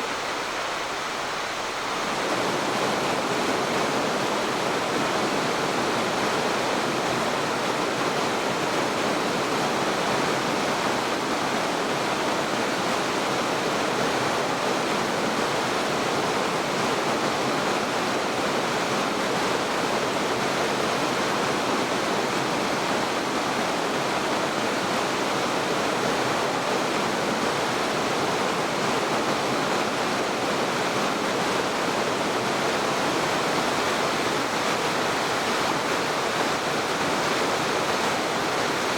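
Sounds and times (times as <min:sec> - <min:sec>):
stream rushing over rapids: 0:00.0 - 0:38.9.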